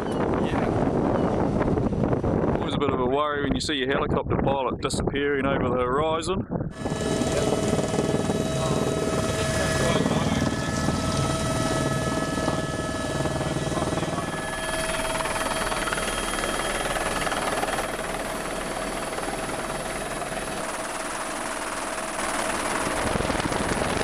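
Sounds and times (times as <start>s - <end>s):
helicopter cabin drone: 0.0s - 3.1s, 6.6s - 24.0s.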